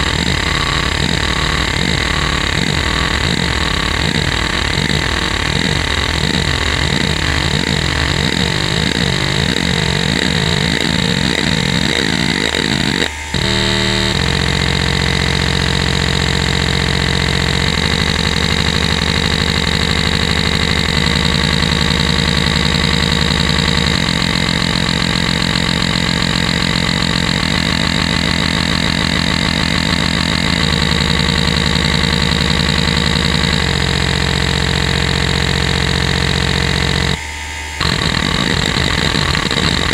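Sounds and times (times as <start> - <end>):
hard drive head buzzing chatter: 0.0 - 39.9.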